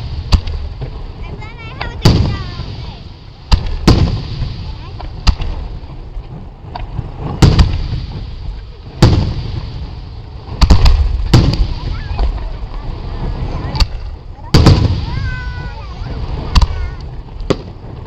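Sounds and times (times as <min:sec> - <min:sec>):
firework shells booming: 0:00.0 - 0:18.0.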